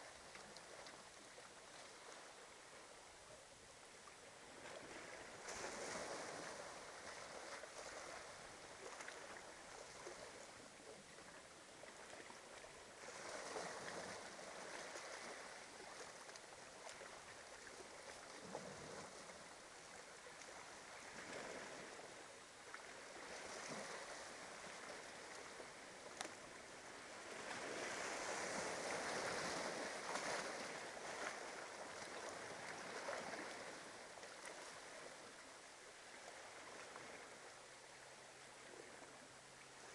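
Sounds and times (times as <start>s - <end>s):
small waves washing up beach: 0.0s - 39.9s.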